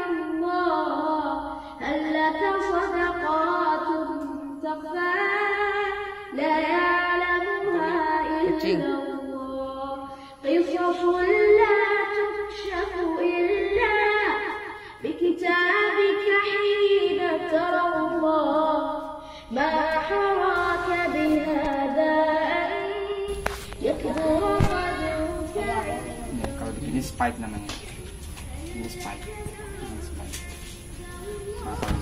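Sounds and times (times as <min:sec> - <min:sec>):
song with sung melody: 0:00.0 - 0:32.0.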